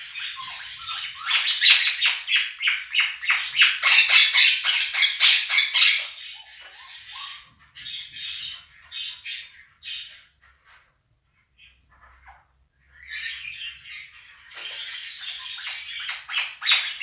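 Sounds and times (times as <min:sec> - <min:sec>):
parrots squawking: 0:00.0 - 0:10.4, 0:11.9 - 0:17.0
parrot calls and chirps: 0:00.0 - 0:17.0.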